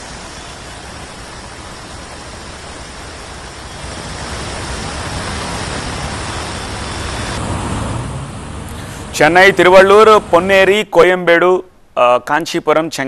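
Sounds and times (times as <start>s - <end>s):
heavy rain rushing hiss: 0.0s - 10.5s
vehicles driving through water: 0.0s - 10.6s.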